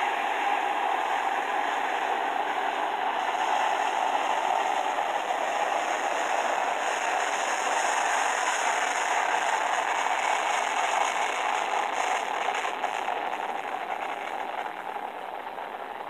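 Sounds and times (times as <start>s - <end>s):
jet engines at takeoff thrust: 0.0s - 16.0s.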